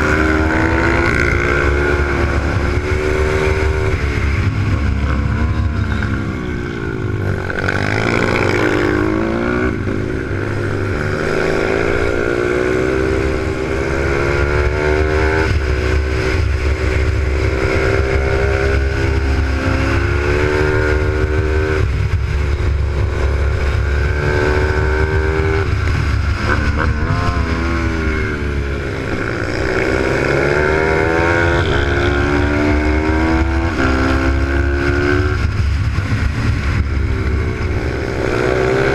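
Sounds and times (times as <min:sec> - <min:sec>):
motorbike engine revving and shifting: 0:00.0 - 0:38.9.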